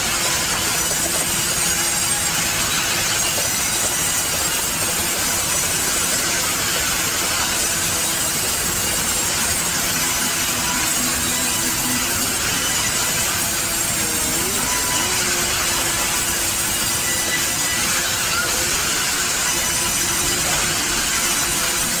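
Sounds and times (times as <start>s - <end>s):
band saw cutting log: 0.0s - 22.0s.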